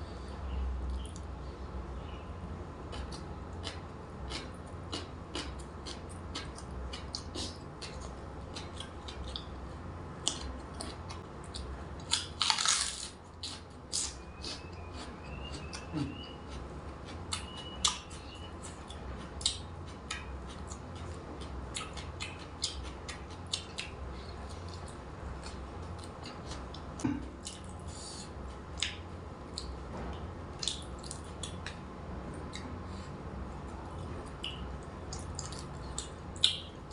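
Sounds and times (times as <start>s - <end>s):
person chewing food: 2.8s - 29.8s, 30.6s - 36.9s.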